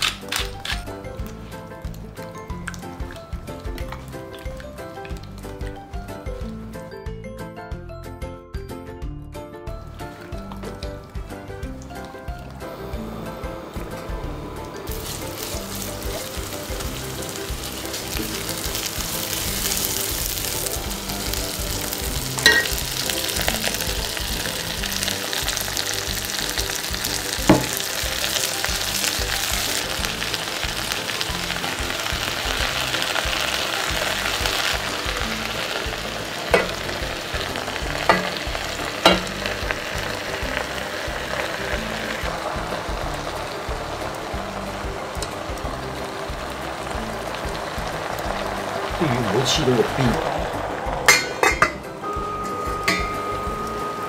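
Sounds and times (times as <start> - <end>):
vegetables sizzling in a pot: 0.0 - 6.6, 9.8 - 54.0.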